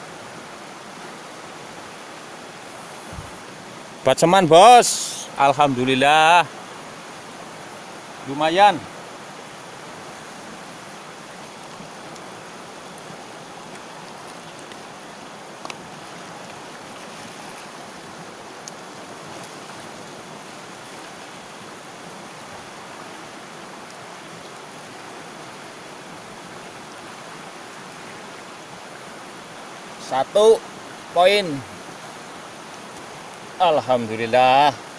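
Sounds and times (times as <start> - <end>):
river rushing past boulders: 0.0 - 34.9.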